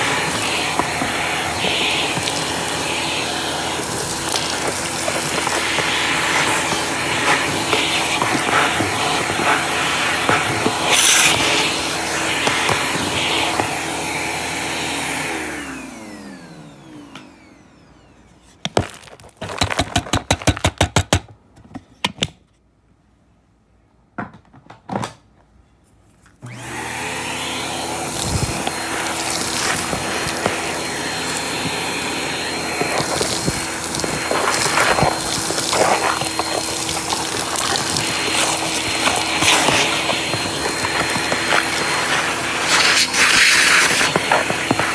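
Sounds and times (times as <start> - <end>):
vacuum cleaner spinning down: 0.0 - 18.4, 26.4 - 44.9
vacuum cleaner running: 0.0 - 19.0, 26.4 - 44.9.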